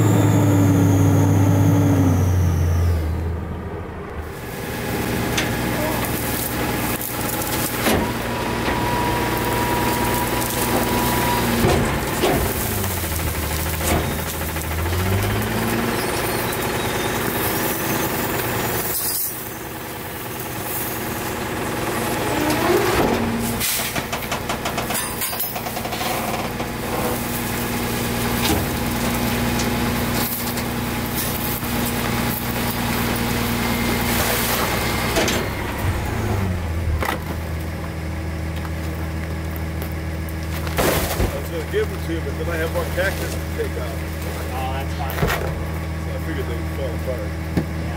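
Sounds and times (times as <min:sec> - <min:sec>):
garbage truck engine revving: 0:00.0 - 0:47.9.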